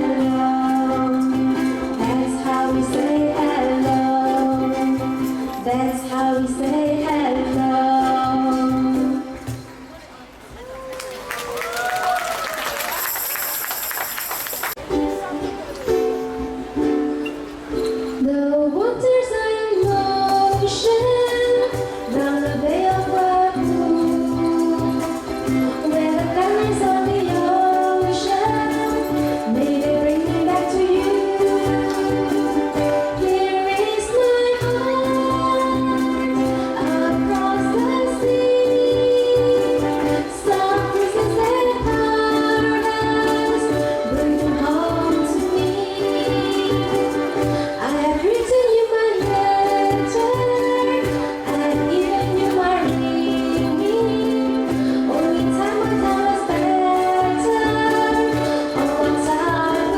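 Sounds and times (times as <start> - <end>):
women singing: 0.0 - 9.5, 18.2 - 59.9
ukulele ensemble playing: 0.0 - 59.9.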